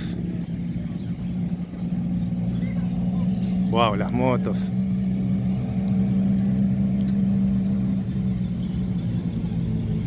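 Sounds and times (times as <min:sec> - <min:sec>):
motorcycle engines running: 0:00.0 - 0:10.0.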